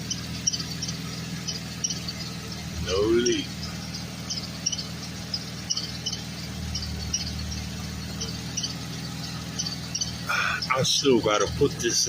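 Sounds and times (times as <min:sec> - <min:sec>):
car engine idling: 0:00.0 - 0:12.0
faint high-pitched chirps: 0:00.0 - 0:12.0.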